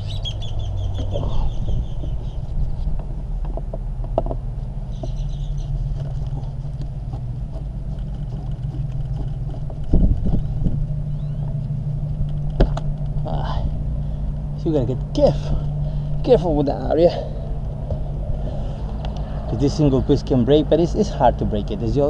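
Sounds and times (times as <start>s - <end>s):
low rumble: 0.0s - 21.9s.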